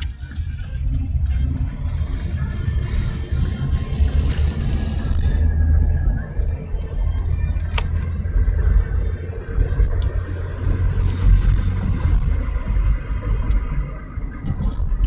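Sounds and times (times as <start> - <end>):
music from car radio: 0.0 - 15.0
road and engine rumble: 0.0 - 15.0.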